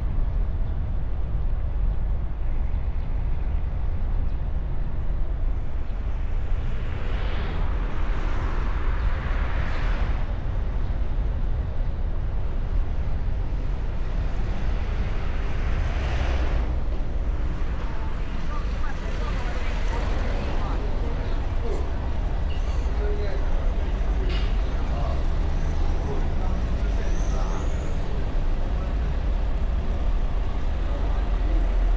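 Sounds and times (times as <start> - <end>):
car driving rumble: 5.9 - 31.9.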